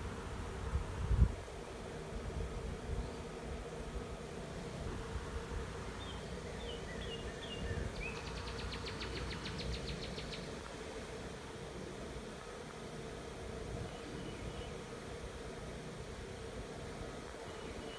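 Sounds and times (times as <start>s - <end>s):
bee swarm buzzing: 0.0s - 17.9s.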